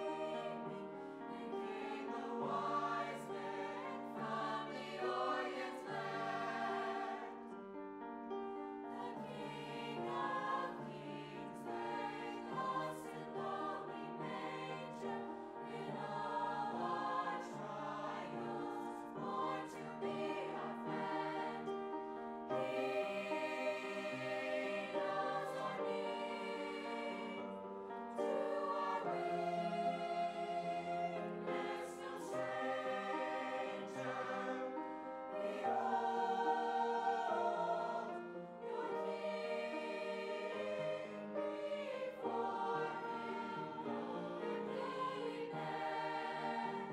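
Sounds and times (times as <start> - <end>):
mixed choir singing: 0.0 - 46.9.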